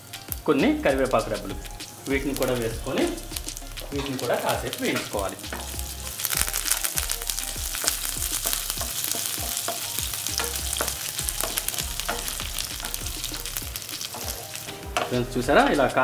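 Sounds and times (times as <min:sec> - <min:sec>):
food sizzling in hot oil: 0:00.0 - 0:16.0
wooden spatula stirring in pan: 0:00.0 - 0:16.0.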